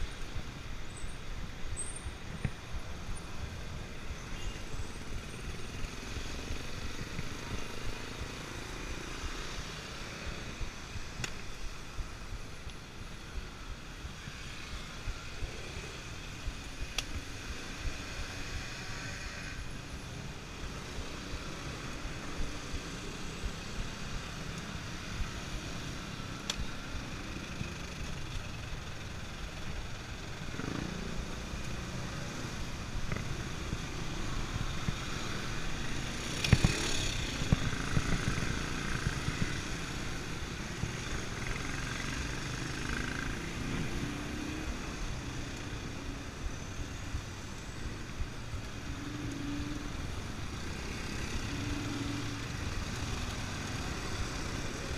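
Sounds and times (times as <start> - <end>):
steady rush of traffic noise: 0.0 - 54.9
vehicle engines: 0.0 - 54.9.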